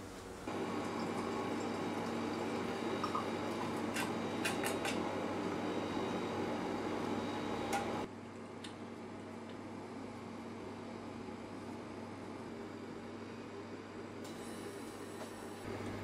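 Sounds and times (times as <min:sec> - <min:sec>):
mechanical hum of lab equipment: 0:00.0 - 0:16.0.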